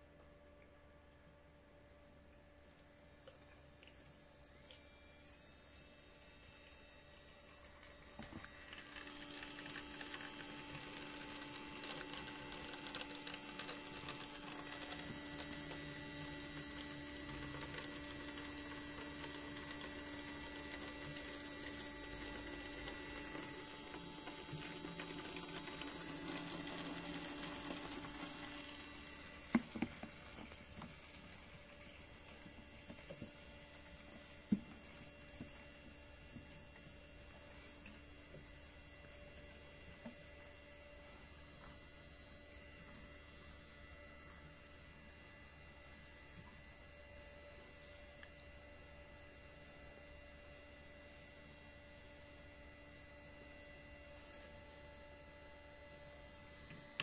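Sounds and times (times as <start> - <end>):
washing machine running: 0.9 - 57.0.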